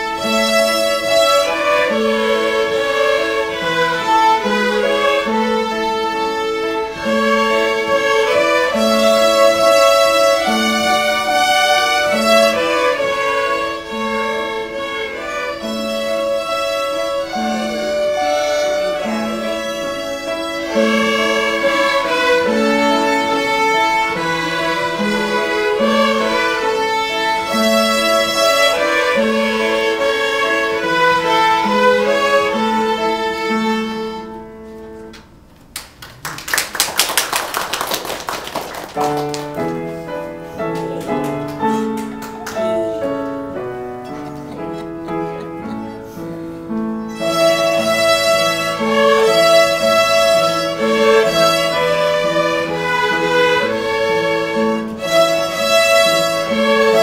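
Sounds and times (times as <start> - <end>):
violins playing in unison: 0.0 - 35.1, 39.0 - 57.0.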